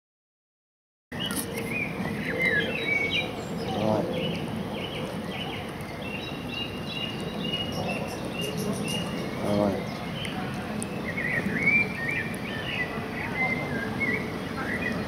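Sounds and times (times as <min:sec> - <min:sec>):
songbirds chirping: 0:01.1 - 0:15.0
outdoor background hiss: 0:01.2 - 0:15.0.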